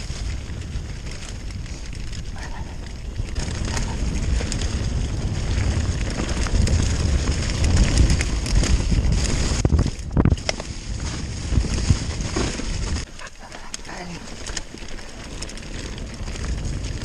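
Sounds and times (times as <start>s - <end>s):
small crackling ticks: 0.0s - 10.7s, 13.0s - 17.0s
bike rolling over rough trail: 0.0s - 17.0s
wind buffeting microphone: 0.0s - 17.0s.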